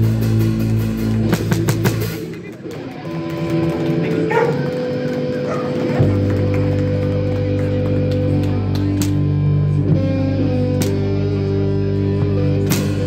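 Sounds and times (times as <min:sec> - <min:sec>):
electric guitar held notes: 0:00.0 - 0:13.0.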